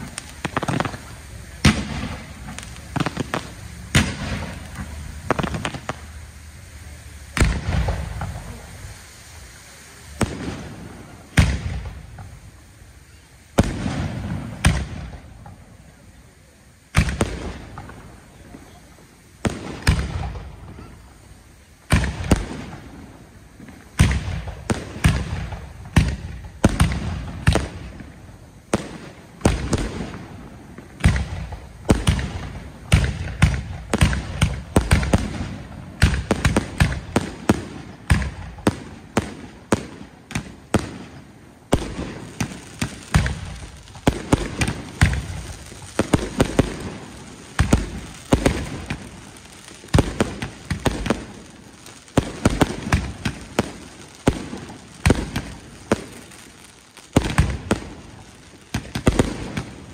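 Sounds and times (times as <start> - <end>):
firework shells bursting: 0.0 - 59.9.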